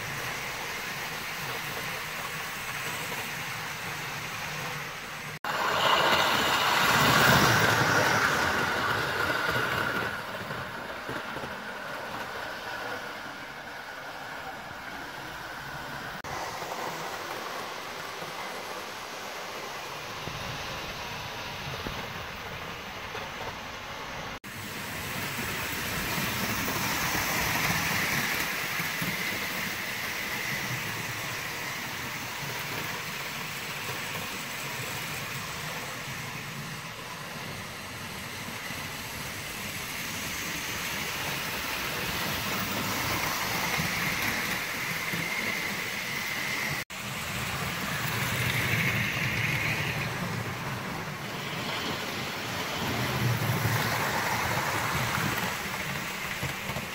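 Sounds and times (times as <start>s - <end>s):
wheels rolling on rail: 0.0s - 56.9s.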